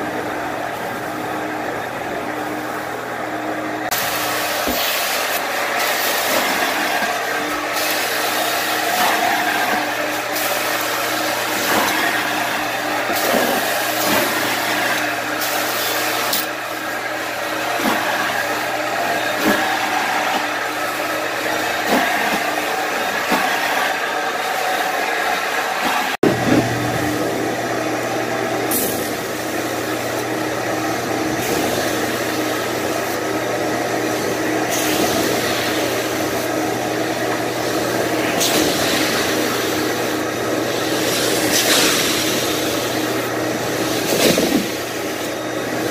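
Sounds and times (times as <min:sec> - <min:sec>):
carpet cleaning machine running: 0:00.0 - 0:45.9.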